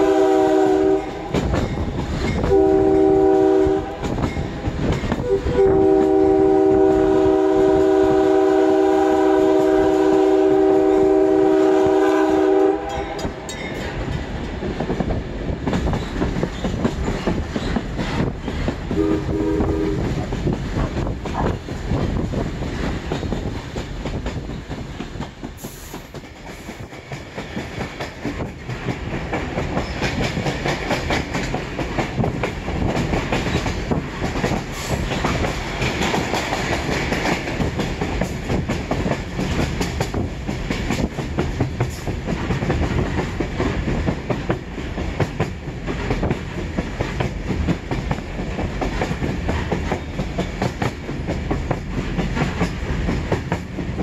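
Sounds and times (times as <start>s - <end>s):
clickety-clack over rail joints: 0.0s - 54.0s.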